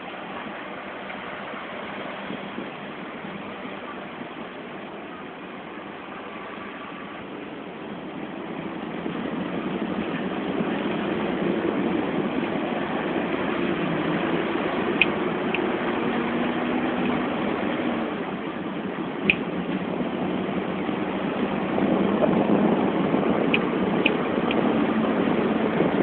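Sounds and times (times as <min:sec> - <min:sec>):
tram running: 0:01.2 - 0:26.0.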